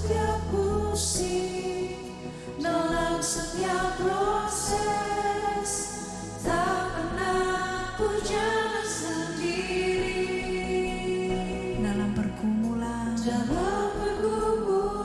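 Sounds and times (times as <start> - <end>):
choir singing worship song: 0.0 - 15.0.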